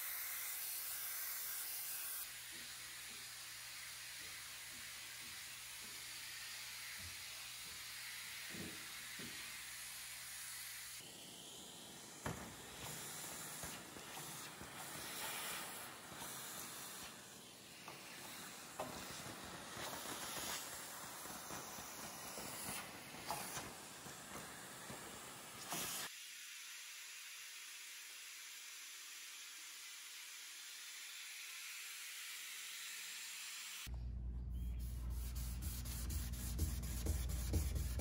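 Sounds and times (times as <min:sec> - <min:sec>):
vacuum cleaner suction hiss: 0:00.0 - 0:33.9.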